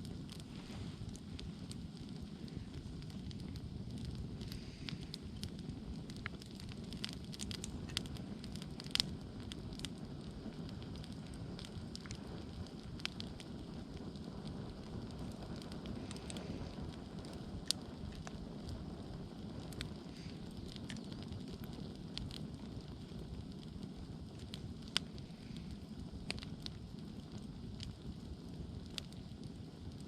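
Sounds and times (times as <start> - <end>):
campfire flames rumbling: 0.0 - 30.0
wood crackling and popping: 0.0 - 30.0.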